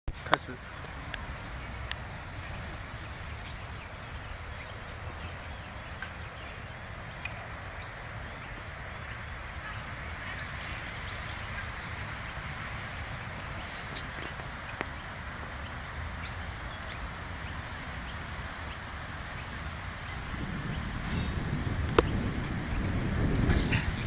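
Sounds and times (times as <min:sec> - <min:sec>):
low outdoor rumble: 0:00.1 - 0:24.0.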